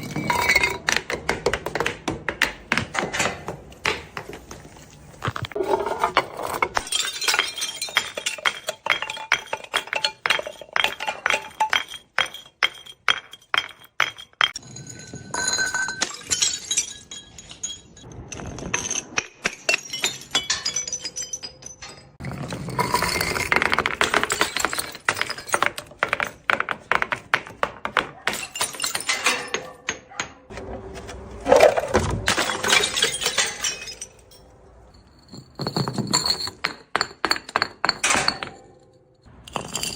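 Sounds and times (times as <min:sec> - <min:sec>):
glass pieces clinking: 0:00.0 - 0:01.9, 0:03.1 - 0:30.0, 0:31.5 - 0:39.9
glass bottles smashing: 0:00.0 - 0:30.0, 0:31.5 - 0:39.9.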